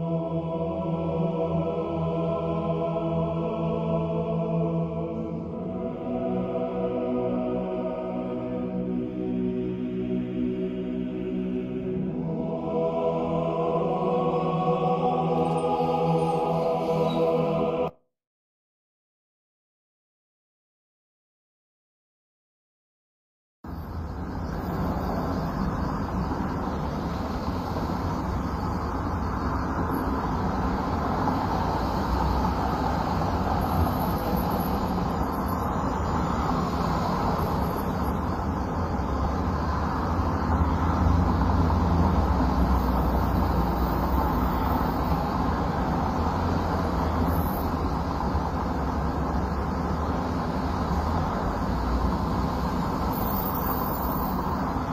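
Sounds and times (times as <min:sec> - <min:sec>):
traffic rumble: 0:00.0 - 0:17.8, 0:23.7 - 0:54.9
street noise: 0:00.0 - 0:18.0, 0:23.6 - 0:54.9.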